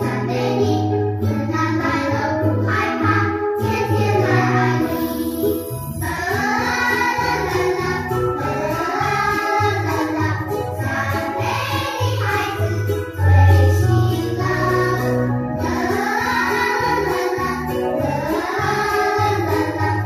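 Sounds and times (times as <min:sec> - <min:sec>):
group of voices singing: 0:01.3 - 0:20.0.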